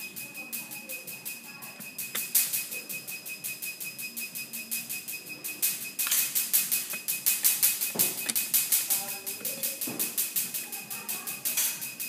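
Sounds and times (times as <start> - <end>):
machine ticking rattle: 0.0 - 12.0.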